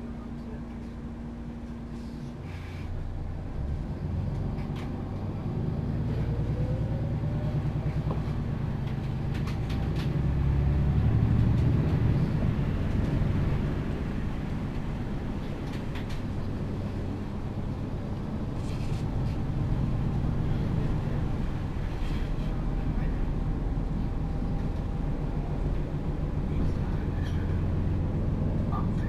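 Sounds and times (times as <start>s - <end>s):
bus diesel engine accelerating: 0.0s - 29.0s.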